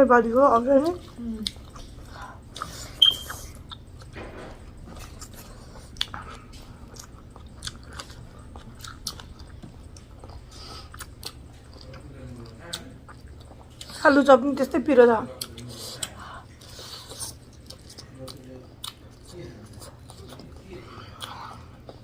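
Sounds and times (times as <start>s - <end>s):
person chewing food: 0.5s - 14.0s, 15.3s - 22.0s.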